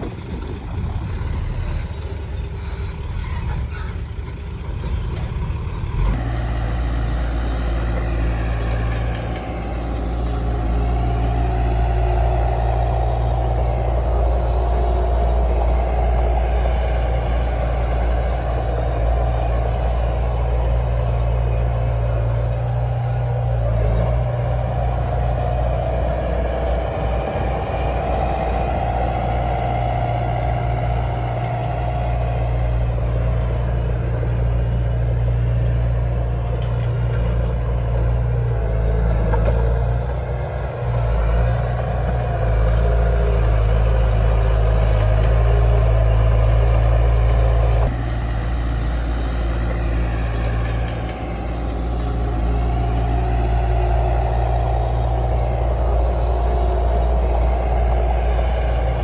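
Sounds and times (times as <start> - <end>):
heavy diesel engine rumble: 0.0 - 59.0.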